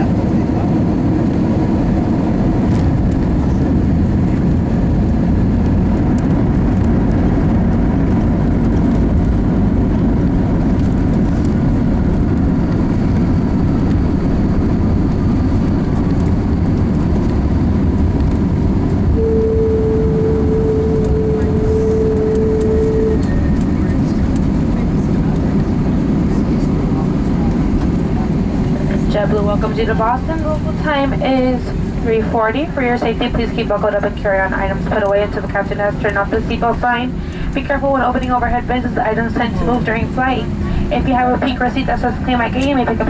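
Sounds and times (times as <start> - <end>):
engine and airflow rumble in cabin: 0.0 - 43.0.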